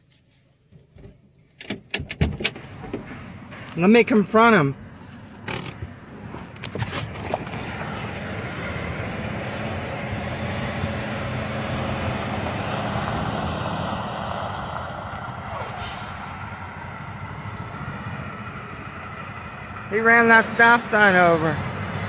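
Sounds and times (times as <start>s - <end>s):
road noise: 0.0s - 22.0s
truck engine rumbling: 2.4s - 22.0s.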